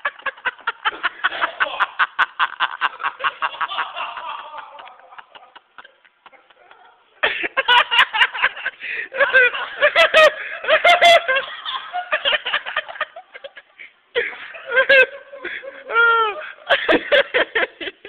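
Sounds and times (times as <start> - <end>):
laughter in bursts: 0.0 - 18.0.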